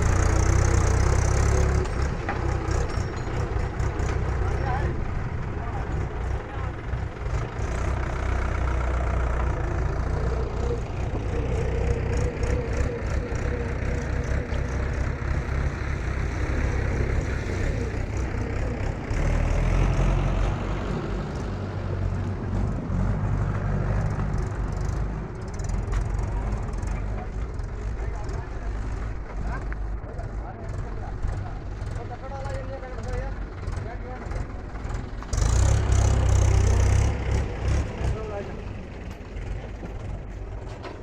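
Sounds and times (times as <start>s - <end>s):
diesel engine rumbling: 0.0s - 41.0s.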